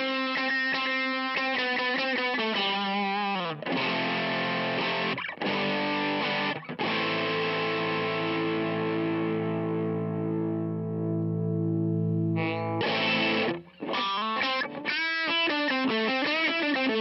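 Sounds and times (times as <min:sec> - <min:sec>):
distorted electric guitar: 0:00.0 - 0:17.0.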